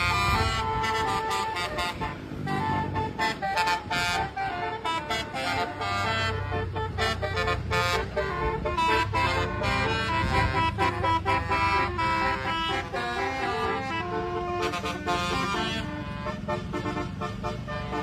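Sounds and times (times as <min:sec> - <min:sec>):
musical vehicle horn tooting melody: 0:00.0 - 0:18.0.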